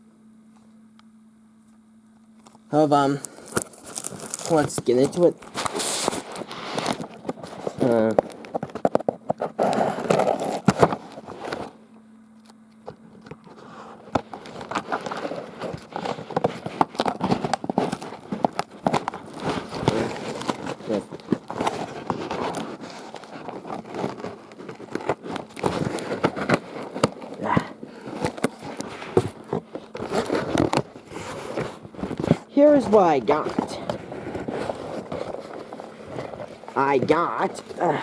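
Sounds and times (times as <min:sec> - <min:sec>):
cardboard and tape rustling: 0:02.4 - 0:11.8, 0:12.8 - 0:38.0.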